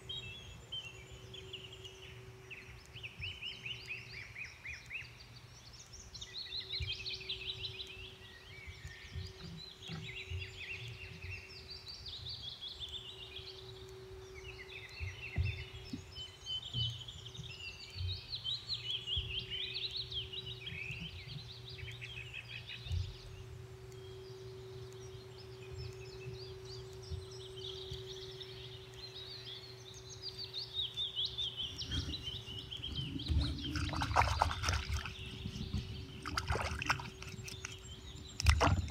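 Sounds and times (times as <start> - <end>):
birds chirping: 0.0 - 38.9
faint steady hum: 0.0 - 38.9.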